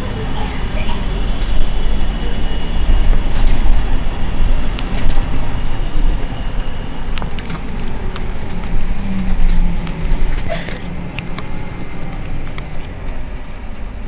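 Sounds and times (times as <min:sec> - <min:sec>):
bus engine idling: 0:00.0 - 0:14.0.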